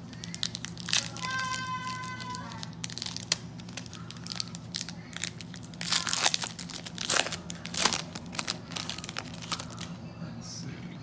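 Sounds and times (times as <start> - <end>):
foil wrappers crinkling: 0.0 - 10.0.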